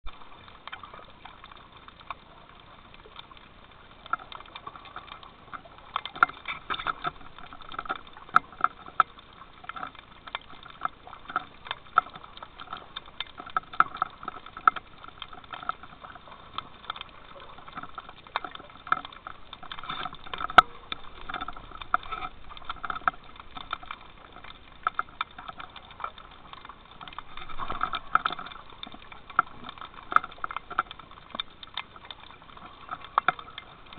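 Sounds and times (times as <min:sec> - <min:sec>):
underwater clicks and crackles: 0:00.0 - 0:33.9.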